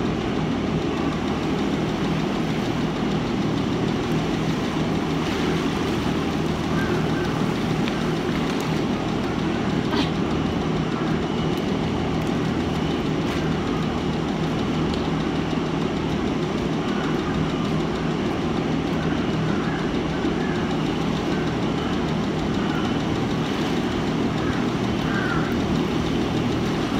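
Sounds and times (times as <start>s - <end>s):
machine drone: 0.0s - 26.9s.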